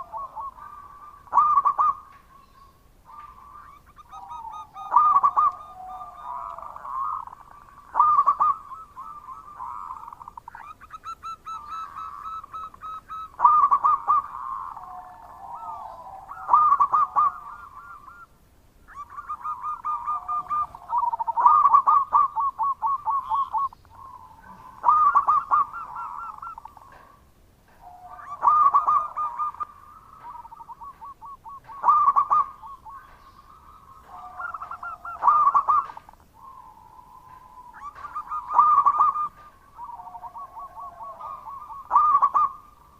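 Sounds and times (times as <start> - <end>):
doves cooing: 0.0 - 42.9
quieter dove cooing: 0.0 - 42.9.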